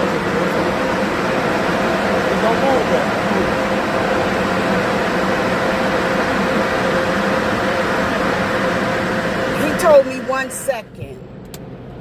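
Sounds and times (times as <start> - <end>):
car wash machine rushing: 0.0 - 10.9.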